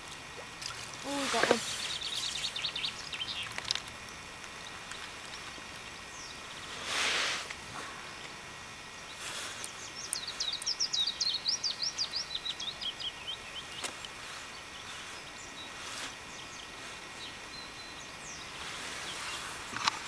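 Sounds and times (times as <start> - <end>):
outdoor background noise: 0.0 - 20.0
songbird singing: 0.7 - 6.7, 9.0 - 20.0.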